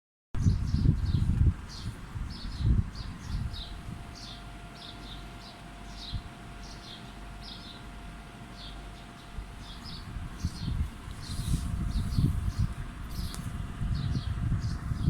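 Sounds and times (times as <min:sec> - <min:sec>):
faint steady hum: 0:00.4 - 0:15.0
small birds chirping: 0:00.4 - 0:15.0.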